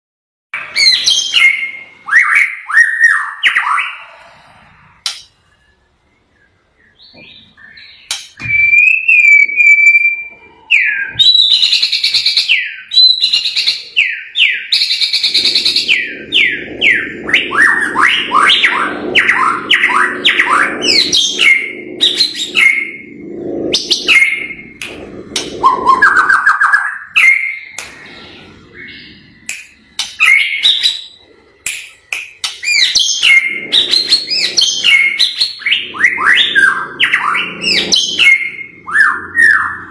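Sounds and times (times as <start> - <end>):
bird singing loud whistles: 0.6 - 4.2, 5.6 - 31.2, 32.4 - 39.9.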